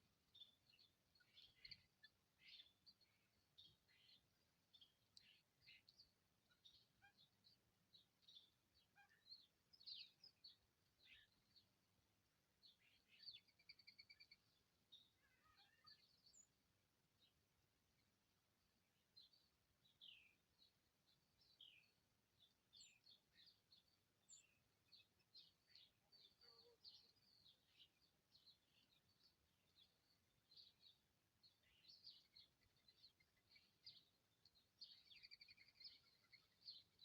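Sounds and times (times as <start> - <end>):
small birds chirping: 0.2 - 37.0.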